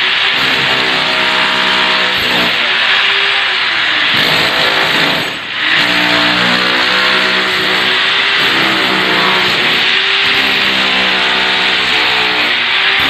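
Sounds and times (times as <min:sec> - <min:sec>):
demolition hammer chiselling tiles: 0:00.0 - 0:13.0.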